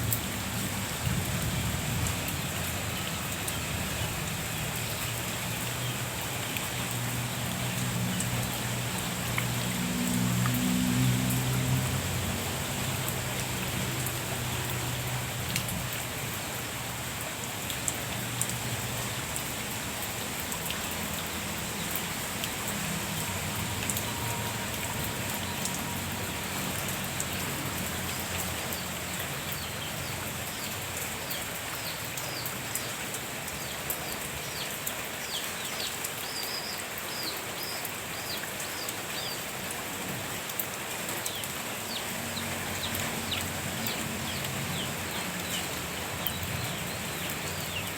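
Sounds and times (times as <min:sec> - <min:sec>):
raindrops ticking close by: 0:00.0 - 0:47.9
steady rain falling: 0:00.0 - 0:47.9.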